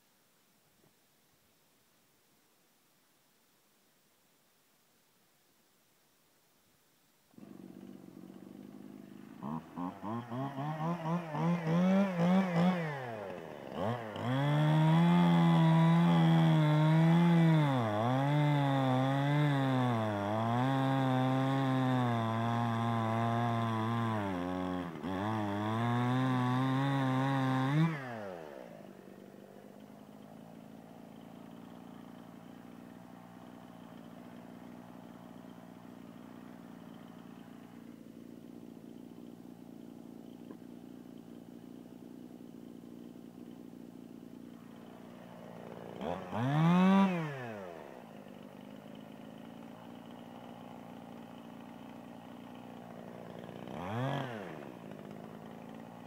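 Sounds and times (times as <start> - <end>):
chainsaw revving and cutting log: 7.4 - 56.0.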